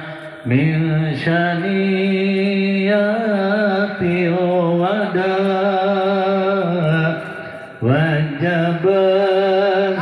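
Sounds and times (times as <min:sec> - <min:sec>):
chant-like melody in long held notes: 0:00.0 - 0:10.0.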